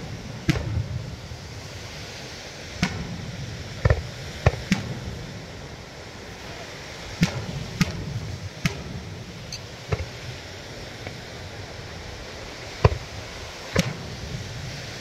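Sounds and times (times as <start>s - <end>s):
firework booms: 0.0s - 1.8s, 2.6s - 14.7s
steady background hiss: 0.0s - 15.0s.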